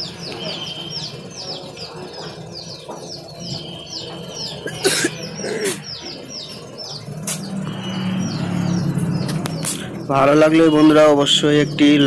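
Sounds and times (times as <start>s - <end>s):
birds chirping rapidly: 0.0s - 12.0s.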